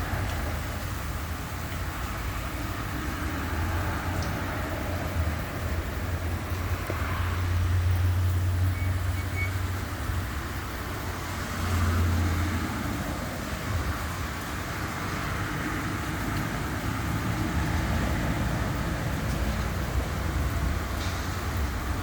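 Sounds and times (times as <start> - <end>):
traffic on wet road: 0.0 - 22.0
vehicle passing: 2.0 - 22.0.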